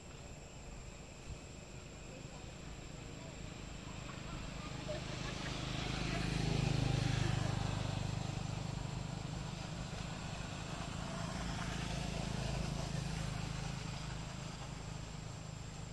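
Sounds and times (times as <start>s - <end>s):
vehicle engine drone: 0.0s - 15.9s.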